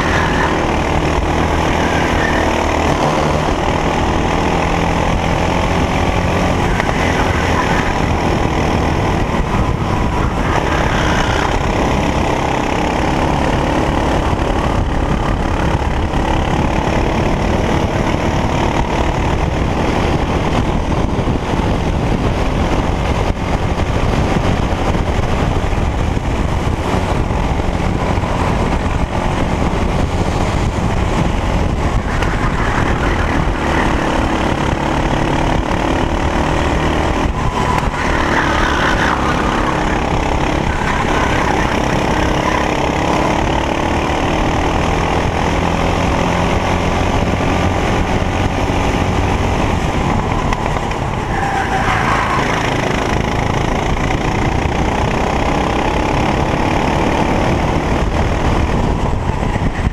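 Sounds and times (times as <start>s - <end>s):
racing kart engine: 0.0s - 59.9s.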